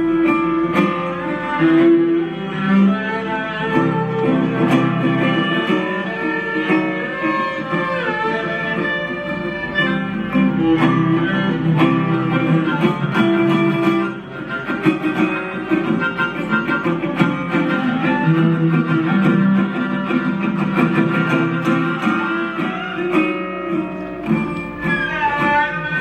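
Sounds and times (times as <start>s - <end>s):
acoustic band playing: 0.0s - 26.0s
acoustic guitar: 0.0s - 26.0s.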